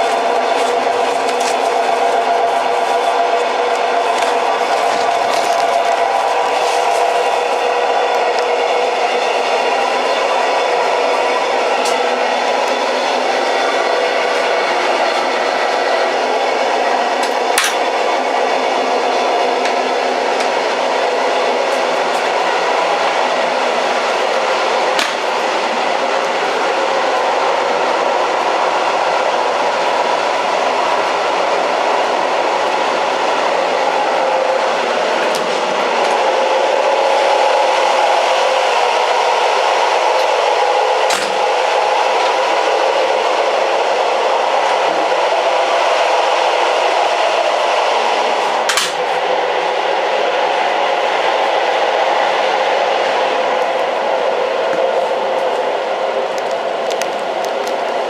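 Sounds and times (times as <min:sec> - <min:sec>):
train rumbling and rattling: 0:00.0 - 0:58.0.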